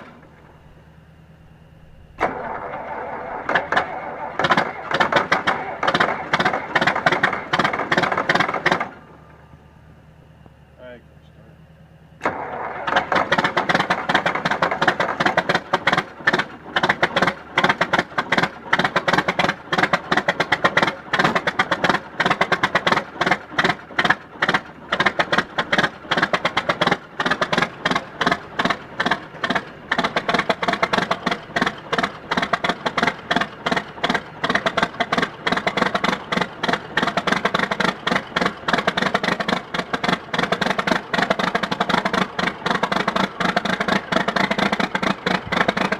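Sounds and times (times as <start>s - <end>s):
diesel tractor engine clattering: 0.0s - 45.9s.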